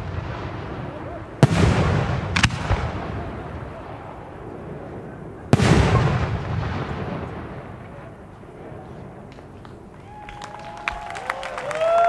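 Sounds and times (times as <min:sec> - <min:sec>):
firework bangs echoing: 0:00.0 - 0:10.2.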